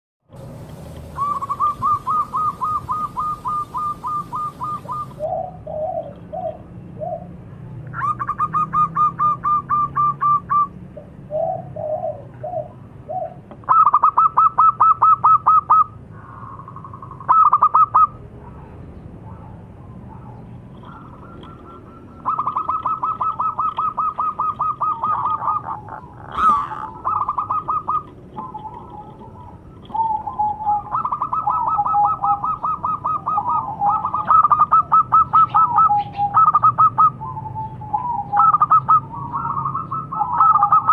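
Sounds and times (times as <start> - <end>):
doves cooing: 0.9 - 40.9.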